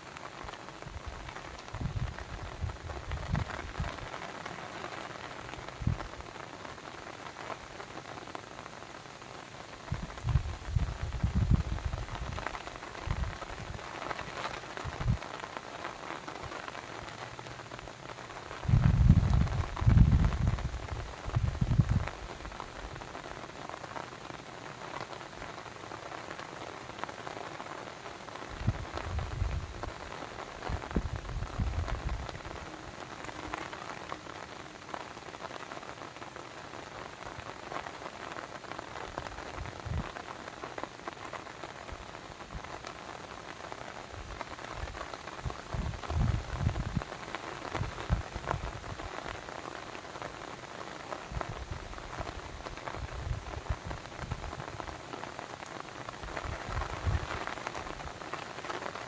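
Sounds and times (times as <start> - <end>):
water patter and drips: 0.0 - 59.0.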